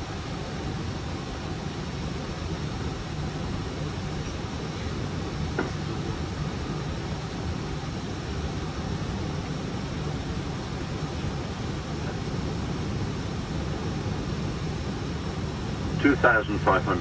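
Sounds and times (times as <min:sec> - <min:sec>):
rush of air in cockpit: 0:00.0 - 0:17.0.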